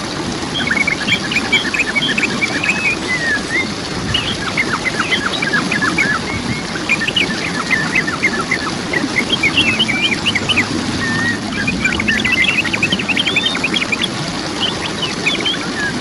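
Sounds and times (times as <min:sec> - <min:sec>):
waterfall rushing: 0:00.0 - 0:16.0
small birds chirping: 0:00.6 - 0:16.0.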